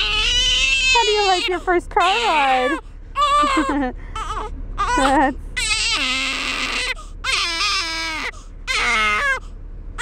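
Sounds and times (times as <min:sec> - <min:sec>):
newborn baby crying: 0:00.0 - 0:09.5
car interior hum: 0:00.0 - 0:10.0.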